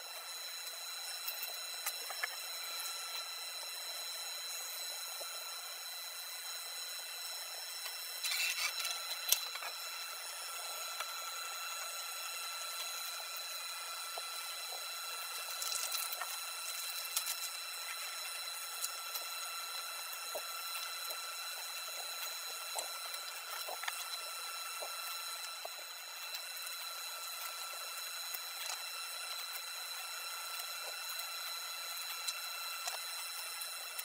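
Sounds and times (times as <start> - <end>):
high-pitched electrical whine: 0.0 - 34.0
hiss: 0.0 - 34.0.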